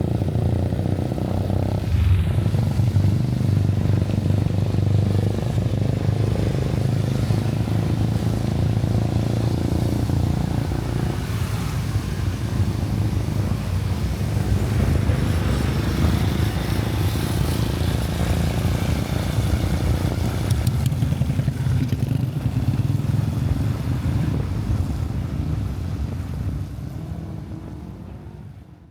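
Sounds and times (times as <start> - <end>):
motorcycle engine running: 0.0 - 28.4
road and wind noise: 0.0 - 28.9.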